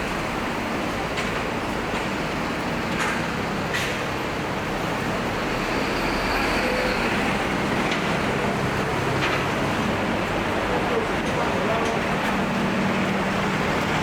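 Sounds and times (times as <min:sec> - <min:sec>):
street traffic passing: 0:00.0 - 0:14.0.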